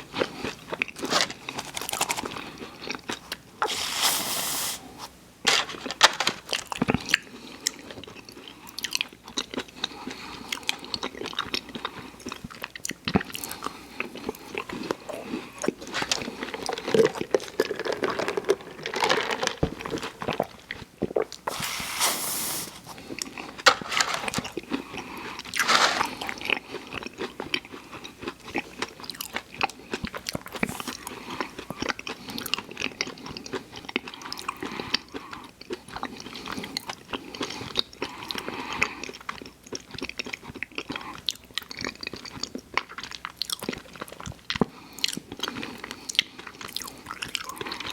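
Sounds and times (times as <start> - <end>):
crunchy chewing: 0.0 - 3.9, 6.4 - 22.0, 22.8 - 47.9.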